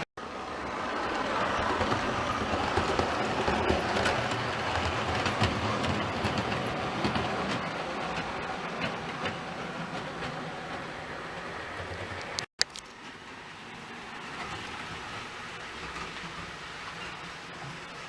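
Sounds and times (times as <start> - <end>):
model train rolling rumble: 0.2 - 18.0.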